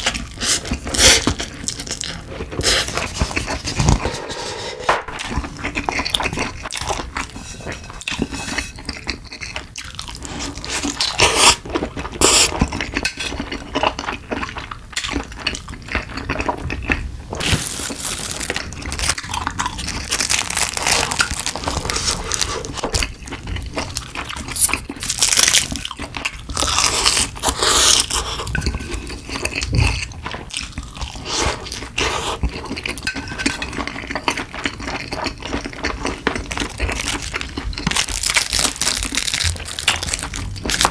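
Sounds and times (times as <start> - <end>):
crunching and chewing food: 0.0 - 4.3, 5.0 - 40.9.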